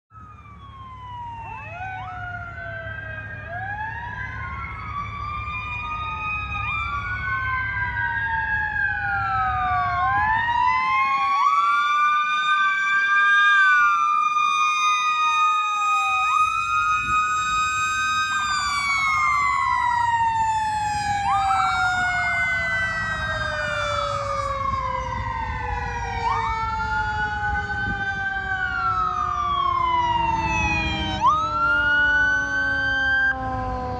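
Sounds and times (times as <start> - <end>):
electronic sirens wailing: 0.1 - 33.9.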